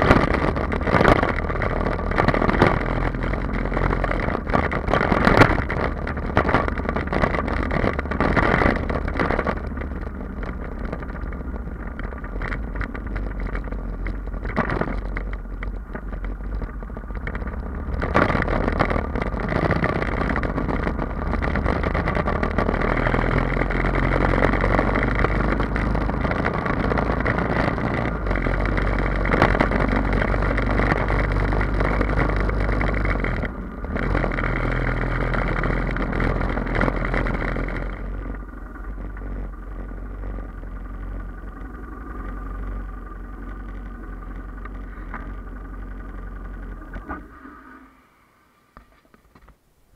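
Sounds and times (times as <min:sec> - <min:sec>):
motorcycle engine running: 0:00.0 - 0:48.2.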